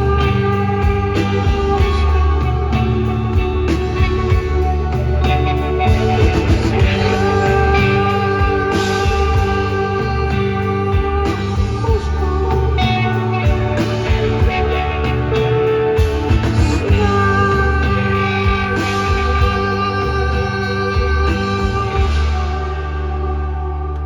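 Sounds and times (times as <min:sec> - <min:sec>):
live rock band playing: 0:00.0 - 0:24.0
ringing guitar tones: 0:00.0 - 0:24.0.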